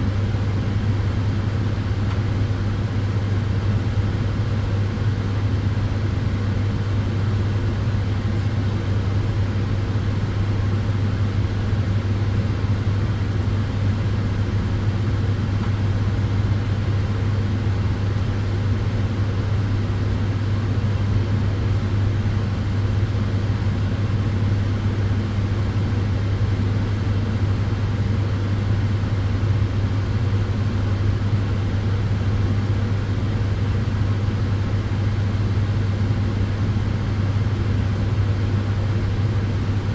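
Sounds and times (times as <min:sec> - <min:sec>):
sunbed fans and tube hum: 0:00.0 - 0:39.9.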